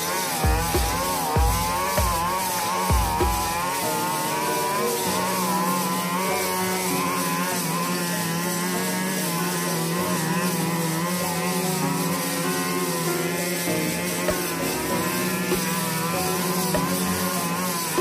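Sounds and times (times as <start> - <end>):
brush cutter engine at high revs: 0.0 - 18.0
metal blade cutting weeds: 0.0 - 18.0.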